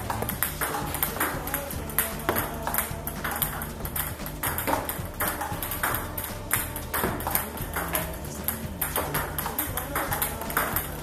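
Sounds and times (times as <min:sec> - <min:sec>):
background music: 0:00.0 - 0:11.0
table tennis balls knocking: 0:00.0 - 0:11.0.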